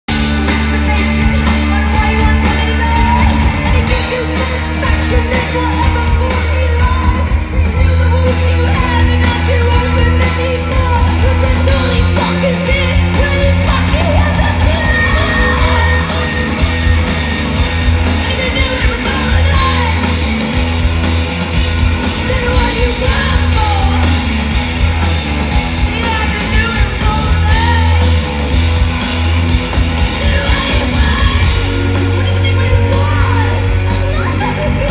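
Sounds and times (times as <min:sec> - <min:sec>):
drums: 0:00.0 - 0:34.9
electric guitar: 0:00.0 - 0:34.9
heavy bass: 0:00.0 - 0:34.9
woman singing lead: 0:00.1 - 0:34.9.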